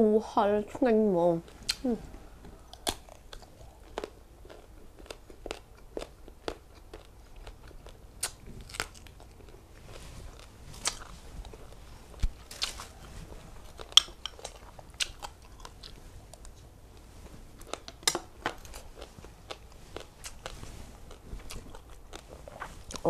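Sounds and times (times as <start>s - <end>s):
chewing with crisp crunches: 2.5s - 23.0s.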